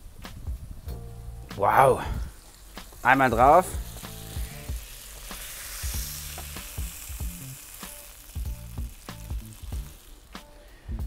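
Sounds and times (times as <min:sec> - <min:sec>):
mushrooms sizzling in a frying pan: 0:00.7 - 0:11.0.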